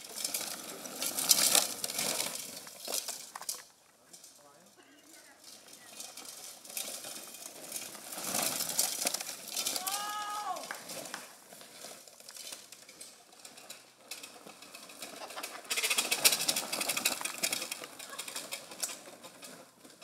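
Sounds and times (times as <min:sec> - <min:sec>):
tyres skidding on loose dirt: 0:00.0 - 0:20.0.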